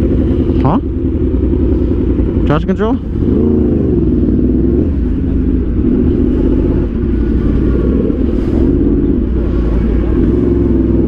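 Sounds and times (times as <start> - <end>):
low rumble: 0.0 - 11.0
motorcycle engine running: 0.0 - 11.0.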